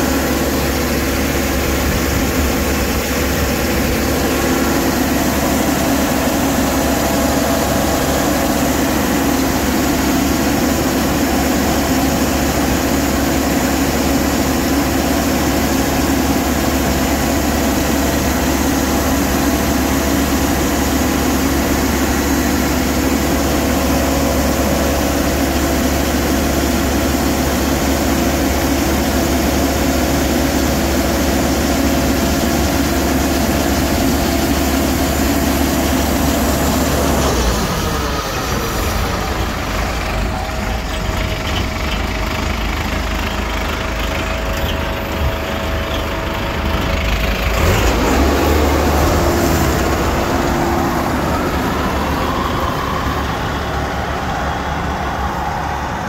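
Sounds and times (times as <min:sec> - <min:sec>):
combine harvester engine hum: 0:00.0 - 0:56.0.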